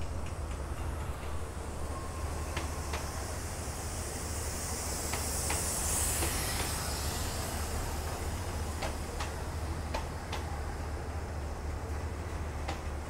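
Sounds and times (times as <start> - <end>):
hiss: 0.1 - 13.0.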